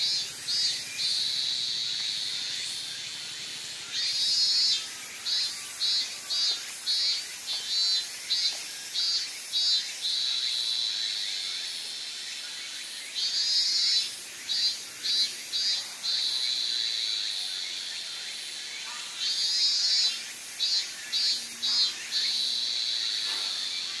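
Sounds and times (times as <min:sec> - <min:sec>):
cicada singing: 0:00.0 - 0:24.0.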